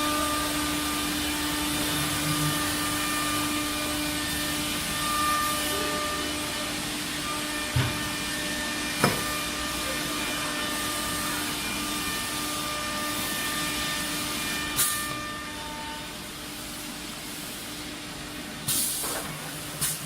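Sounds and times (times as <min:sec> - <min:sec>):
cnc router running: 0:00.0 - 0:16.5.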